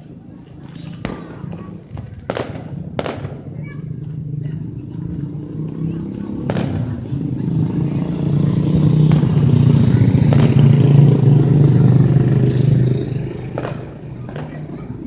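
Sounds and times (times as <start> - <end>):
motorcycle engine running: 0.0 - 15.0
firework cracks: 0.7 - 4.5, 5.1 - 7.4, 8.4 - 15.0.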